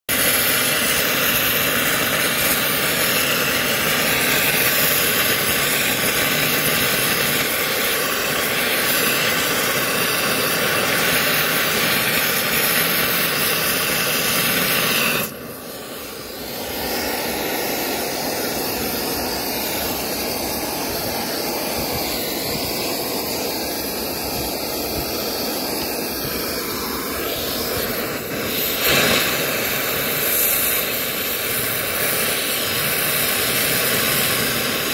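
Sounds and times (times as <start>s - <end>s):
cutting torch flame hissing: 0.1s - 34.9s.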